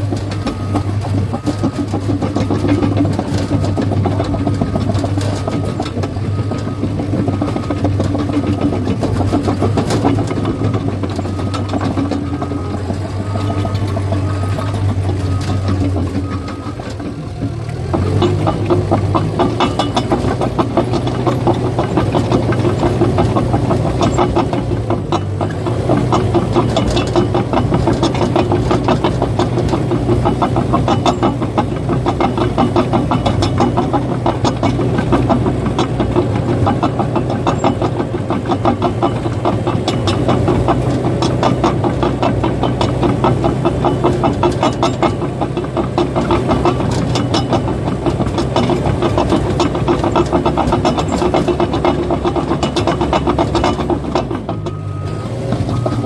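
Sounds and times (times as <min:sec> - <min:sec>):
bulldozer diesel engine running: 0:00.0 - 0:56.0
steel tracks clattering: 0:00.0 - 0:56.0.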